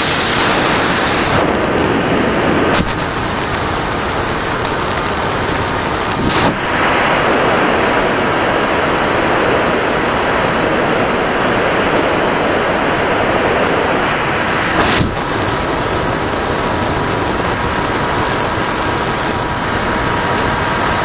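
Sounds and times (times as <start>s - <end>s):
thin high whine: 0.0s - 21.0s
wind rushing over microphone: 0.0s - 21.0s.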